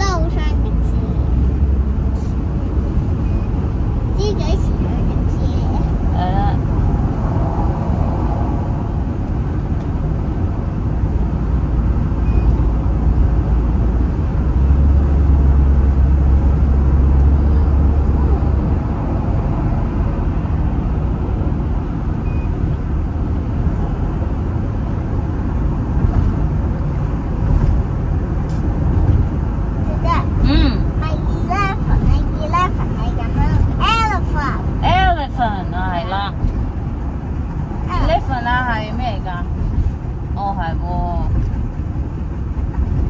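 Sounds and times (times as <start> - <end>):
car cabin tyre and engine rumble: 0.0 - 43.0.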